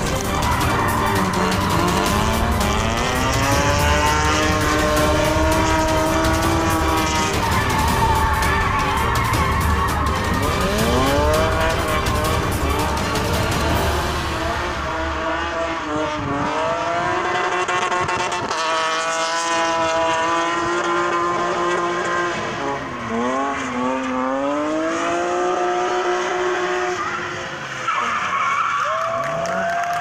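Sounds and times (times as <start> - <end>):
car engine revving hard: 0.0 - 27.7
spinning tyres hissing: 0.0 - 28.9.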